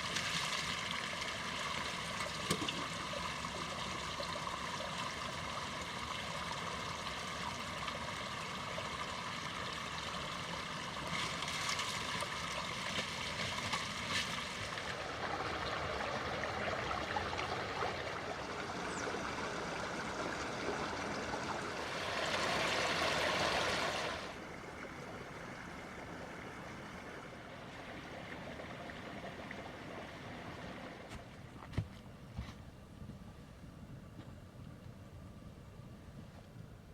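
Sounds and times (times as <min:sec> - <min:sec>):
running water rushing: 0:00.0 - 0:31.2.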